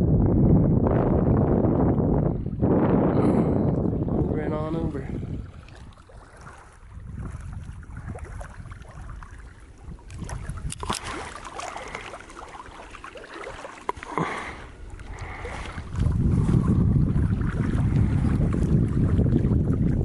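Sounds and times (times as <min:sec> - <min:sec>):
wind rumbling on microphone: 0:00.0 - 0:20.0
small waves lapping: 0:03.4 - 0:20.0.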